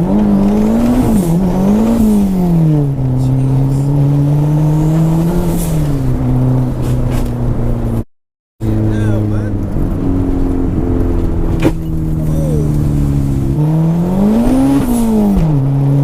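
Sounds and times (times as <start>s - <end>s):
car engine running under load: 0.0s - 8.0s, 8.6s - 16.0s.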